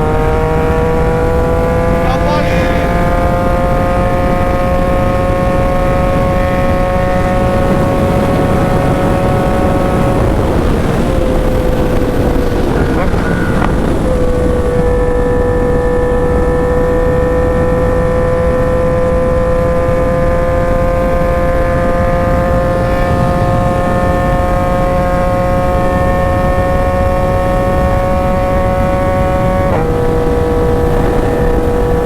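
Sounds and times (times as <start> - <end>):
motorcycle engine at high revs: 0.0 - 32.0
wind and road noise: 0.0 - 32.0.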